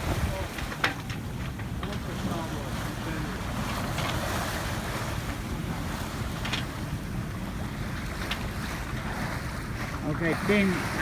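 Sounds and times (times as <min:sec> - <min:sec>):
water rushing along hull: 0:00.0 - 0:11.0
water splashes: 0:00.0 - 0:11.0
wind buffeting microphone: 0:00.0 - 0:11.0.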